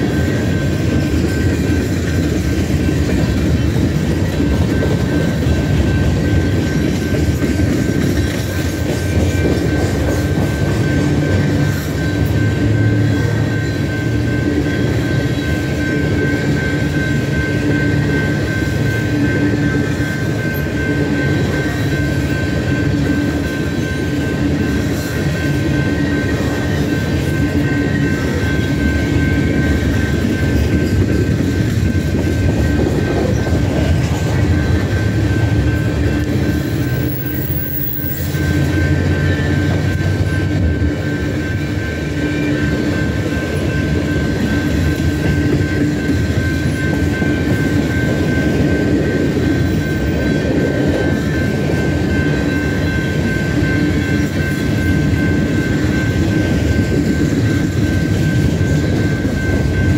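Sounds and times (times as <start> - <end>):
steady high tone: 0.0 - 59.9.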